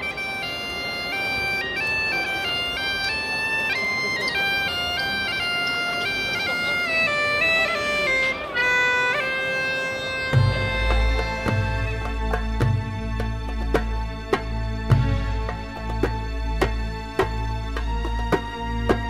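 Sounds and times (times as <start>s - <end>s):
bagpipe melody: 0.0s - 19.0s.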